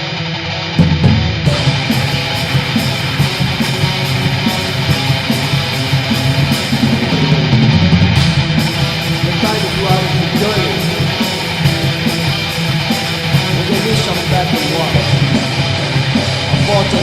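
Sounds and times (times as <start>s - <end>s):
distorted electric guitars: 0.0s - 17.0s.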